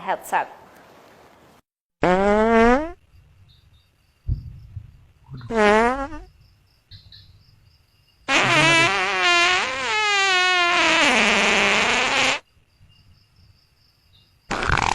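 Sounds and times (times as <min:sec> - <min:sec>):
crickets chirping: 0:02.9 - 0:14.9.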